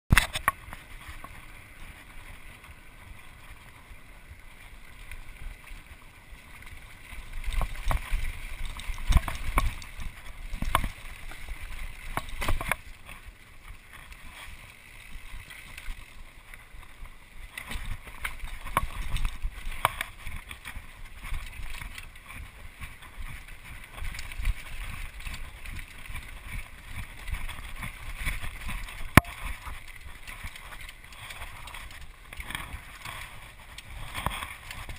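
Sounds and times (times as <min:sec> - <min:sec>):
bike knocking and rattling: 0:00.1 - 0:34.9
bike tyres on dirt trail: 0:00.1 - 0:34.9.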